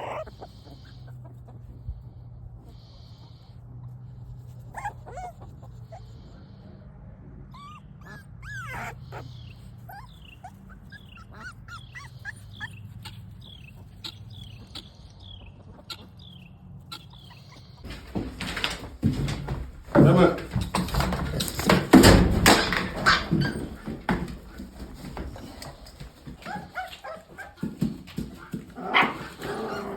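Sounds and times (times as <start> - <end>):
puppies whimpering and yipping: 0.0 - 2.1, 4.3 - 6.6, 7.5 - 19.3, 20.7 - 29.9.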